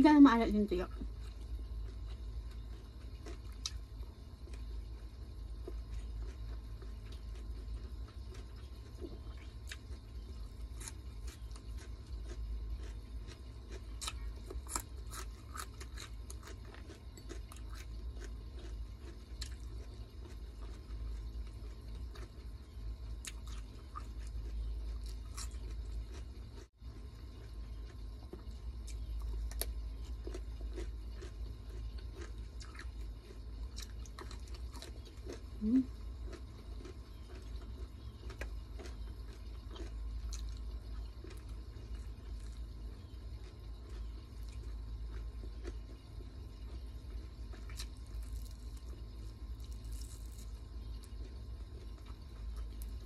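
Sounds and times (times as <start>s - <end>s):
steady low hum: 0.0s - 53.0s
person chewing crunchy food: 0.9s - 53.0s.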